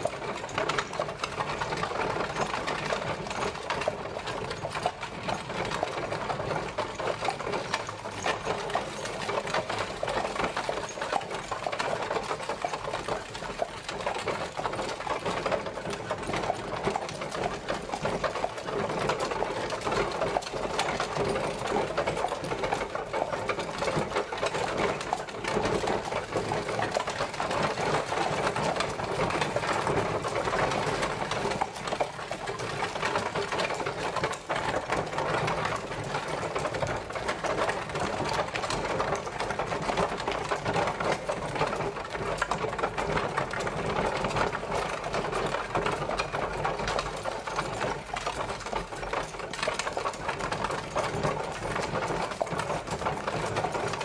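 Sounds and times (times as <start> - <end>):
carriage rattling and clattering: 0.0 - 54.0.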